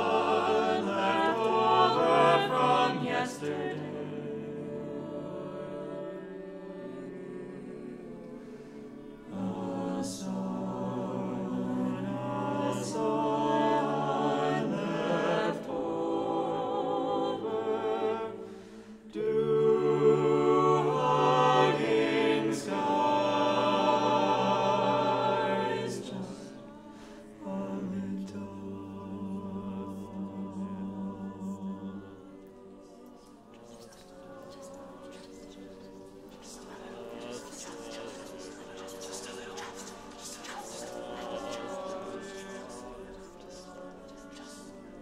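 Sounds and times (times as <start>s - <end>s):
choir singing sustained chords: 0.0s - 45.0s.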